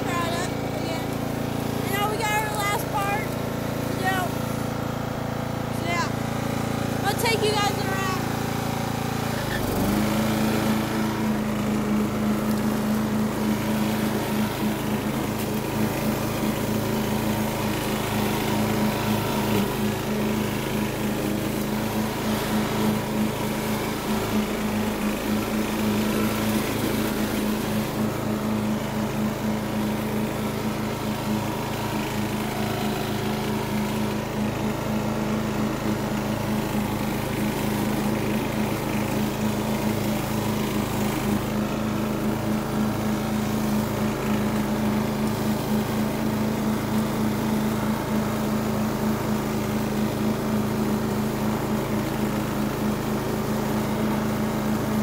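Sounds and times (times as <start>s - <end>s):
riding mower engine running: 0.0s - 55.0s.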